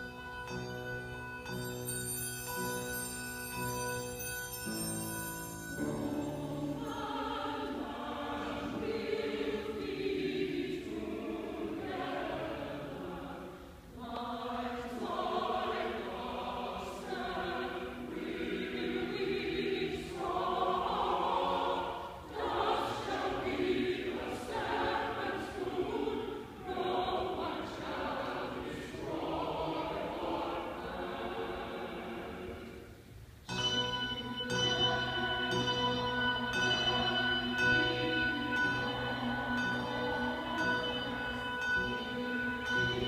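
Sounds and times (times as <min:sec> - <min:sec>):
choir singing: 0:02.5 - 0:43.0.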